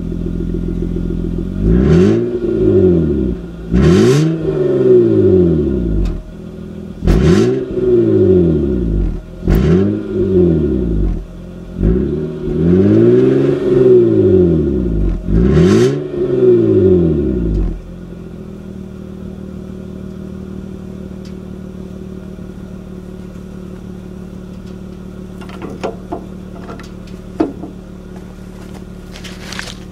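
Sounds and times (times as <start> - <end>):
car engine revving and idling: 0.0 - 29.9.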